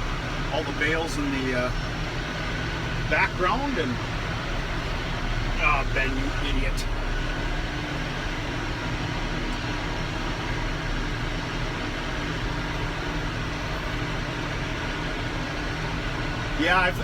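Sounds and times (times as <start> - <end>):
machinery hum: 0.0 - 17.0
tractor engine running under load: 0.0 - 17.0.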